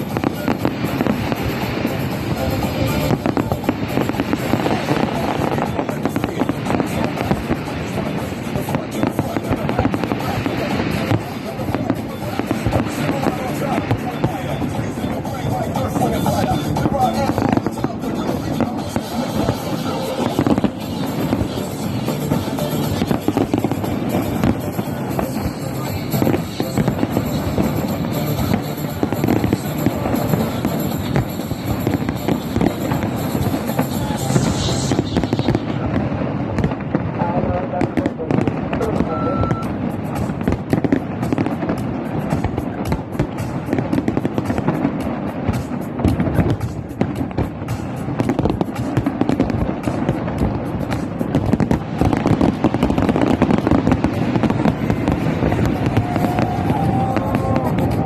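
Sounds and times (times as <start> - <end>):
fireworks bursting: 0.0 - 58.0
music playing: 0.0 - 58.0.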